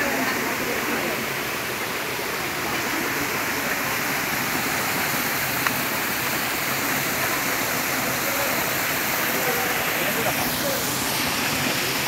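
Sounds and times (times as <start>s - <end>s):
stream cascading over boulders: 0.0s - 12.0s.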